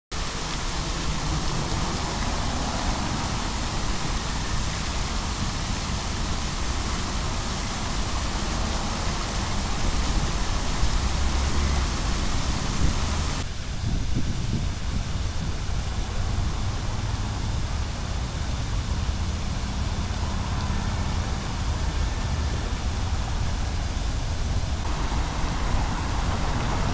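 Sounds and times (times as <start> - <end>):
fountain water splashing: 0.1 - 26.9.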